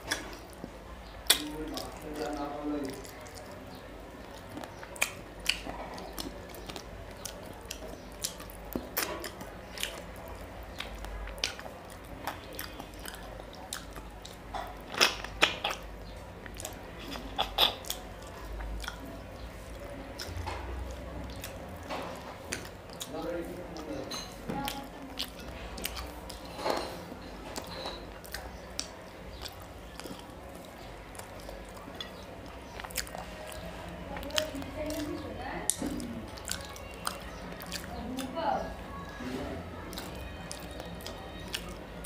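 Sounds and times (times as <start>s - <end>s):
wet chewing and mouth smacks: 0.0s - 39.2s, 39.8s - 42.0s.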